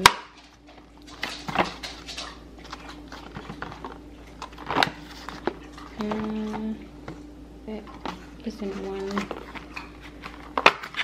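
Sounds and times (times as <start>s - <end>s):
dog chewing crunching bites: 0.0s - 6.4s, 8.0s - 11.0s.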